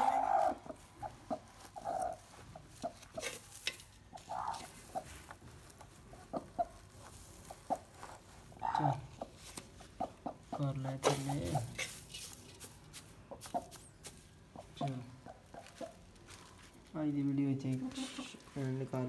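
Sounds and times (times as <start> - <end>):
hen clucking: 0.0 - 12.4, 13.1 - 16.2, 17.5 - 19.0
straw rustling and crackling: 0.0 - 19.0.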